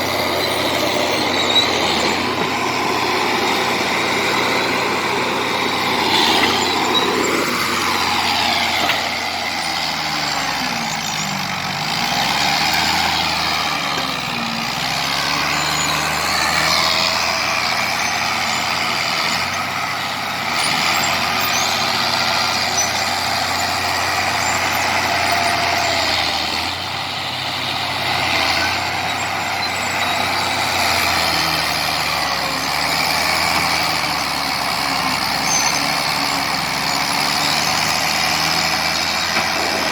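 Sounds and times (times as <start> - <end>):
bulldozer diesel engine working: 0.0 - 39.9
high-pitched squeal: 0.0 - 39.9.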